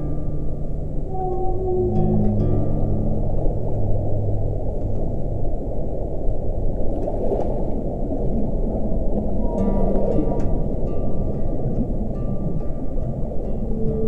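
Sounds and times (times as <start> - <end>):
low drone notes: 0.0 - 14.0
muffled water-like rushing: 0.0 - 14.0.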